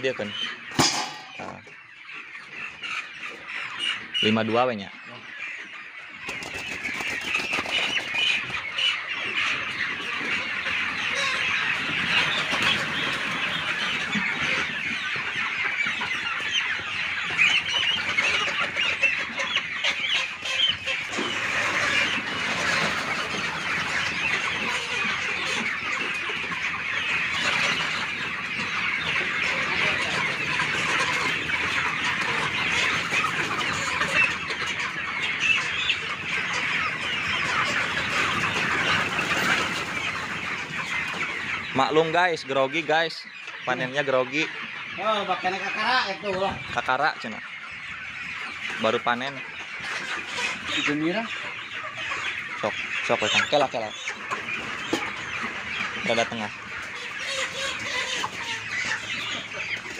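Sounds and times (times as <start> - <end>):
flock of chickens clucking: 0.0 - 59.9.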